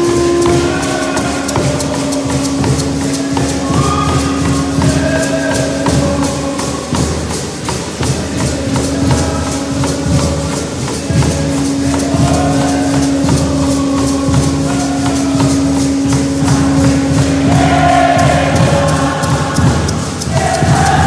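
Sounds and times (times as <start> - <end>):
group of voices singing: 0.0 - 21.0
strummed string instruments: 0.0 - 21.0.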